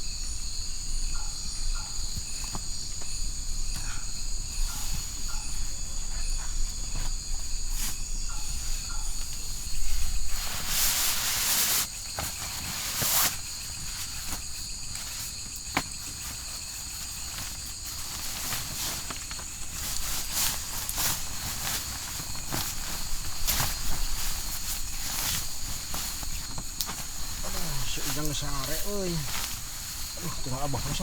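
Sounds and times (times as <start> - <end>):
crickets chirring: 0.0 - 31.0
loud rustles: 4.5 - 31.0.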